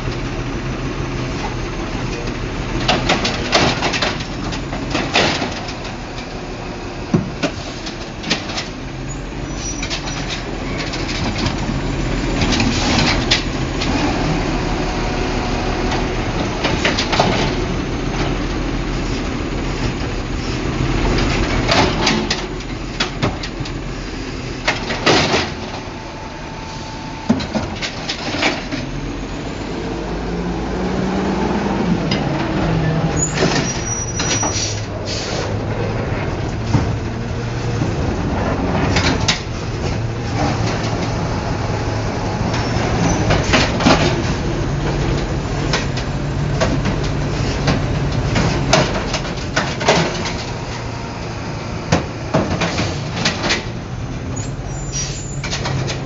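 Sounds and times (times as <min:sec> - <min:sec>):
garbage truck engine running: 0:00.0 - 0:56.0
hydraulic arm lifting carts: 0:00.0 - 0:56.0
carts banging and clunking: 0:01.4 - 0:06.3, 0:07.0 - 0:18.6, 0:21.0 - 0:29.8, 0:31.0 - 0:56.0.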